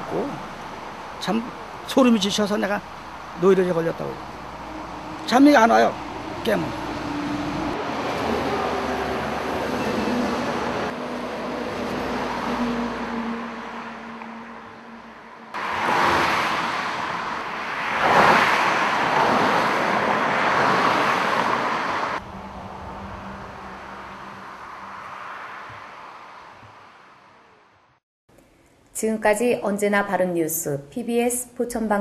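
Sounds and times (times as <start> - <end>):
vehicles driving past: 0.0 - 28.0.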